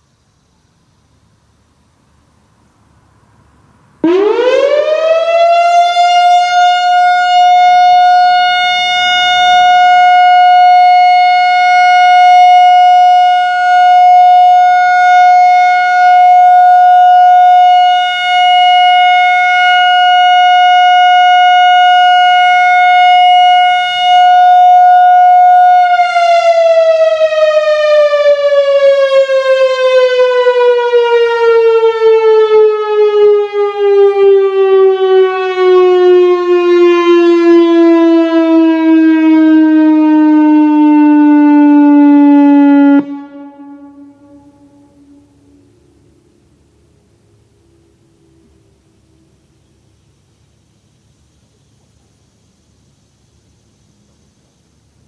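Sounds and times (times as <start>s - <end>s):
outdoor warning siren: 4.0s - 50.7s.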